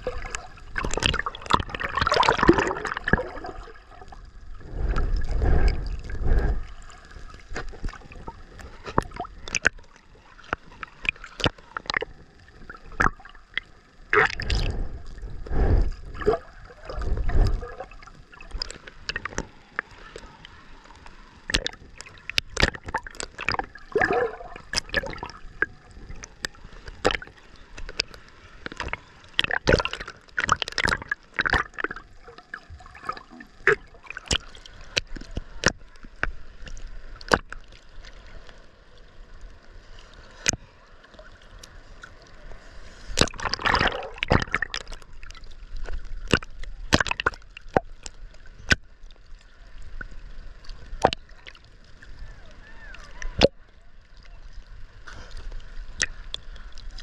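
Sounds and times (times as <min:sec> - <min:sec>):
water sloshing and splashing: 0:00.0 - 0:57.0.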